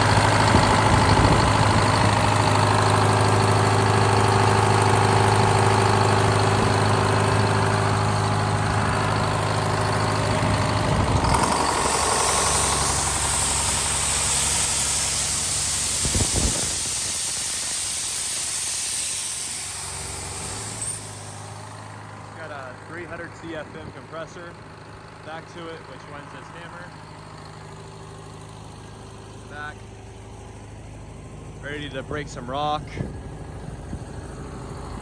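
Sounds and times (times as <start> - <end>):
diesel engine running steadily: 0.0 - 35.0.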